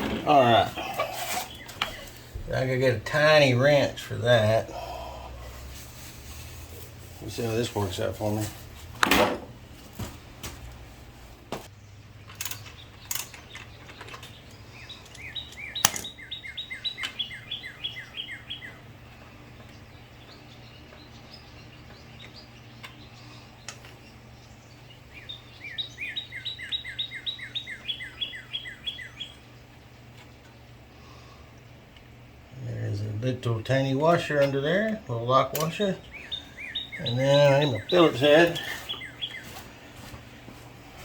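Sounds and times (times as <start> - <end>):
songbird singing: 0.0 - 8.9, 11.6 - 41.0.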